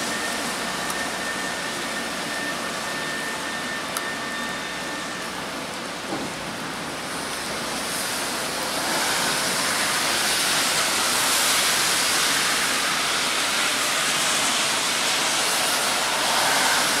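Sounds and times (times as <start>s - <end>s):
train rushing hiss: 0.0s - 17.0s.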